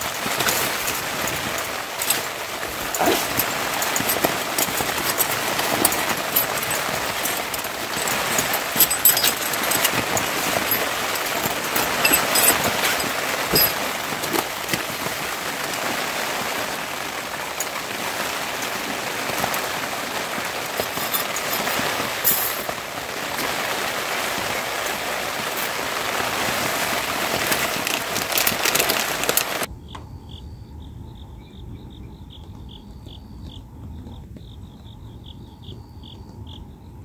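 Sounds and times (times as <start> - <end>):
steady rain: 0.0 - 29.7
insects chirping: 0.0 - 37.0.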